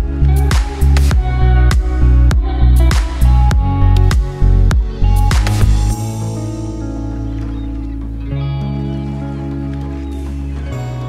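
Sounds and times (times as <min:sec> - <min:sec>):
background music held chords: 0:00.0 - 0:11.0.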